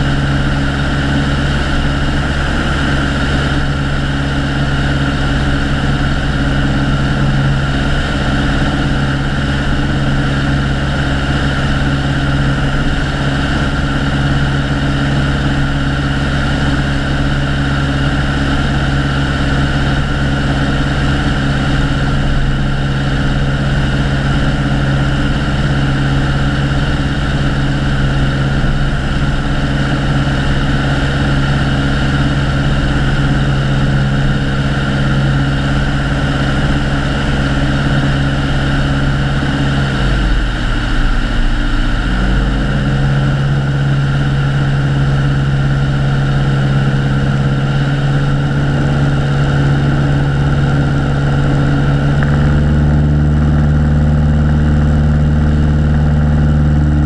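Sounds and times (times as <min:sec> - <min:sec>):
propeller plane engine in flight: 0:00.0 - 0:57.0.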